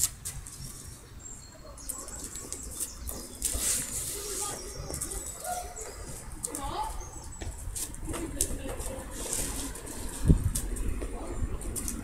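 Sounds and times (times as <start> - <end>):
distant voices: 0.0 - 12.0.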